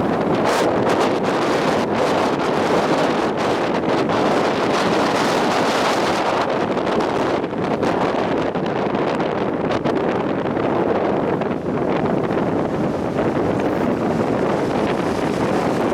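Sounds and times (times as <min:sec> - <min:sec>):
strong wind buffeting microphone: 0:00.0 - 0:15.9.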